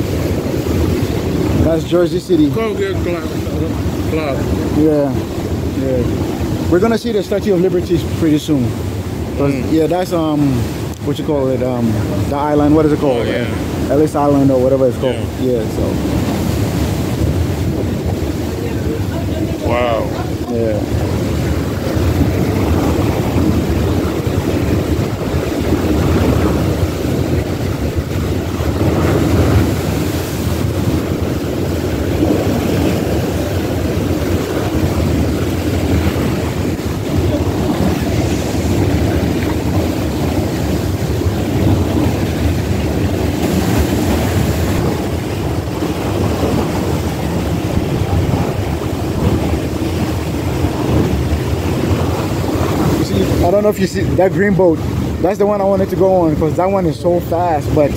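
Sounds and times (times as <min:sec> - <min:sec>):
boat engine drone: 0:00.0 - 0:57.9
water rushing past hull: 0:00.0 - 0:57.9
wind buffeting microphone: 0:00.0 - 0:57.9.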